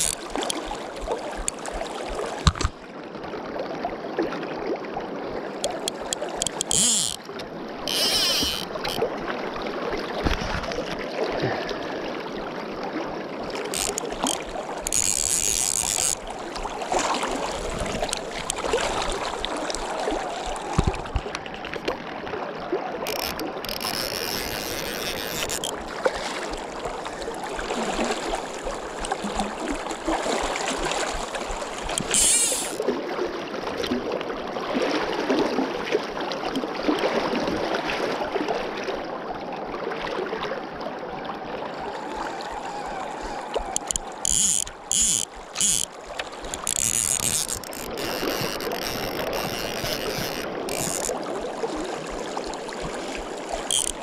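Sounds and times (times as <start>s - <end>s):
river current rushing and lapping: 0.0s - 54.0s.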